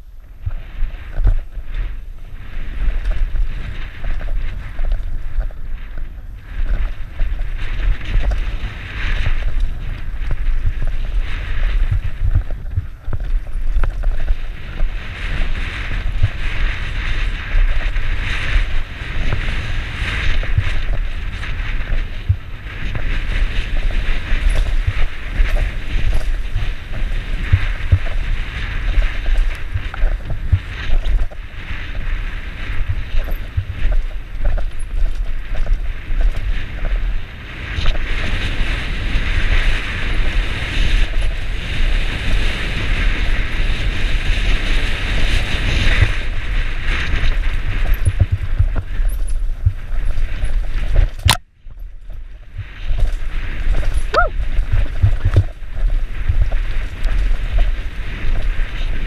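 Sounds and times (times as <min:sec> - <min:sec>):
bike tyres rattling on rocky trail: 0:00.0 - 0:59.0
wind buffeting microphone: 0:00.0 - 0:59.0.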